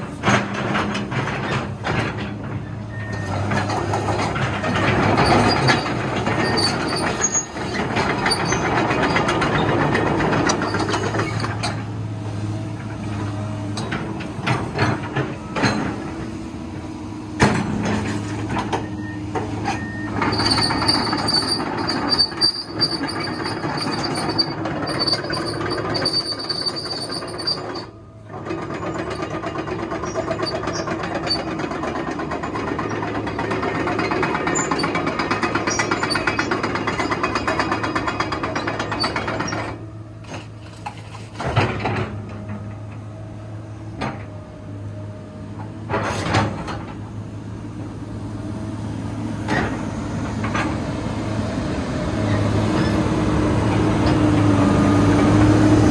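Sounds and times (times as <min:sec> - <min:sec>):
excavator engine drone: 0:00.0 - 0:55.9.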